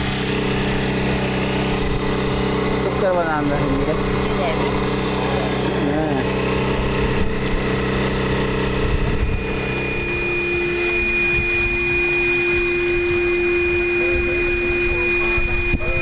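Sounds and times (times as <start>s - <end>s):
outboard motor running: 0.0s - 16.0s
steady even whine: 0.0s - 16.0s.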